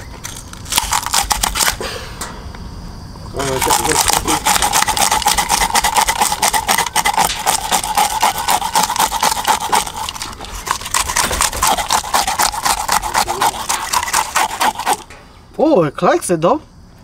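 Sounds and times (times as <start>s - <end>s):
fish scaler scraping scales: 0.0s - 1.8s, 3.4s - 15.2s.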